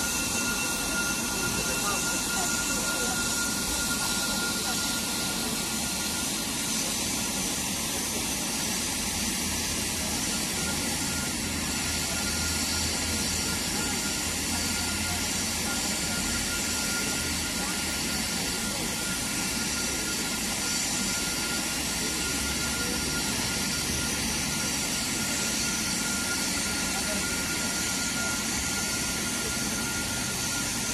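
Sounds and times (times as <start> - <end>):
steam hissing: 0.0 - 30.9
thin high tone: 0.0 - 30.9.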